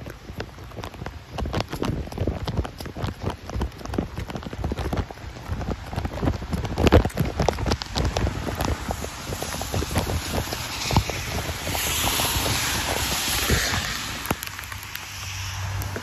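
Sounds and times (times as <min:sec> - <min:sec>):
raindrops tapping: 0:00.0 - 0:16.0.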